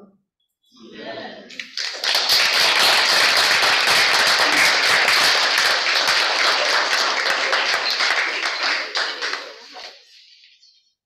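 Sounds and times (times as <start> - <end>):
people clapping: 1.5 - 10.4.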